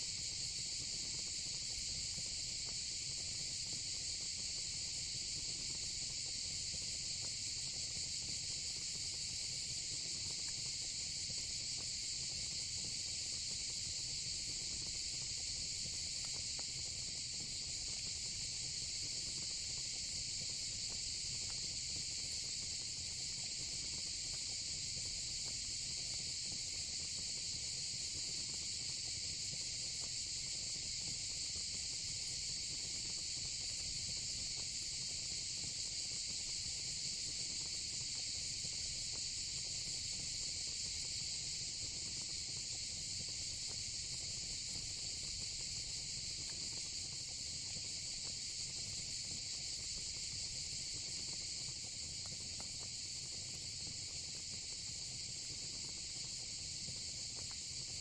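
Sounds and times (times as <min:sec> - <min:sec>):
faint fire crackles: 0:08.4 - 0:58.0
crickets and cicadas chirping: 0:09.2 - 0:58.0.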